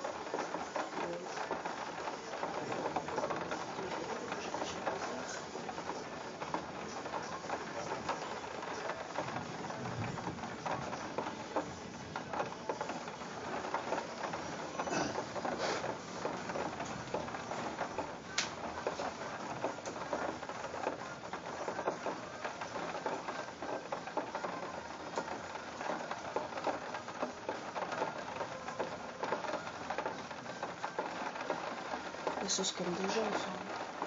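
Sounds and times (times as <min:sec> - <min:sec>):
heavy rain on a window: 0:00.0 - 0:34.0.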